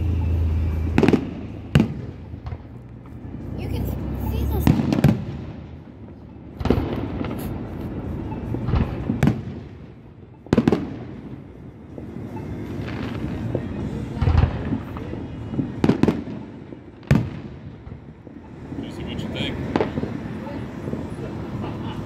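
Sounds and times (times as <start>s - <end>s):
fireworks display rumble: 0.0s - 22.0s.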